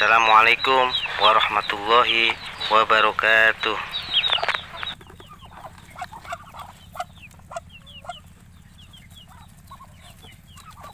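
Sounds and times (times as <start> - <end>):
poultry clucking and peeping: 0.0 - 10.9.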